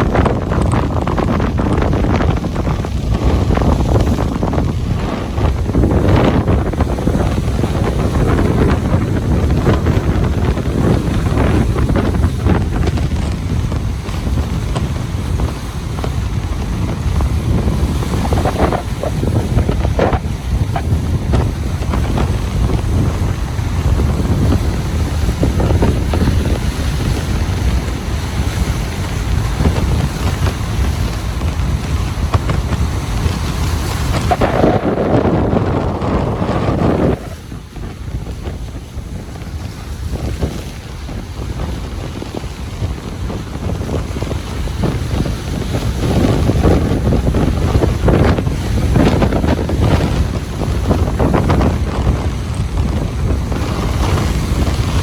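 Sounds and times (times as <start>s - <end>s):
surf washing onto beach: 0.0s - 55.0s
wind buffeting microphone: 0.0s - 55.0s.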